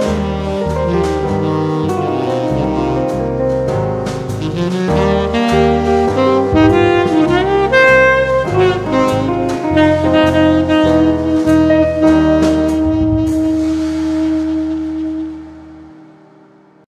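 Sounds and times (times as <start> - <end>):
jazz saxophone and drums: 0.0 - 16.9.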